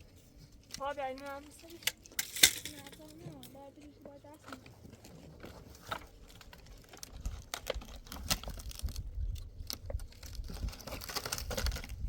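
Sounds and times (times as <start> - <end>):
clicks and crinkly rustling: 0.0 - 12.0.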